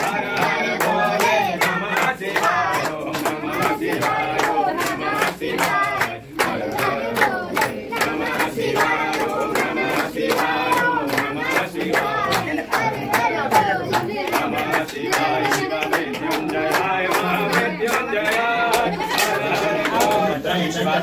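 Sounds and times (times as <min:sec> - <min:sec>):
group chanting: 0:00.0 - 0:21.0.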